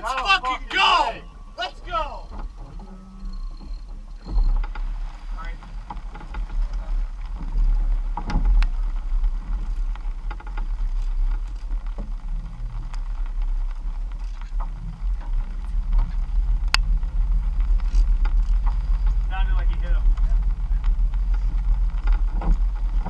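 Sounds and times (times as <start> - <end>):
boat outboard engines rumbling: 0.0 - 23.0
water churning around hull: 0.0 - 23.0.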